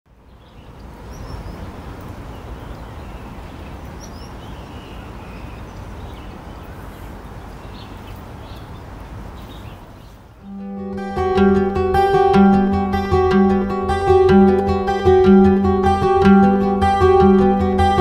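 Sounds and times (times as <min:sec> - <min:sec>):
distant traffic rumble: 0:00.1 - 0:18.0.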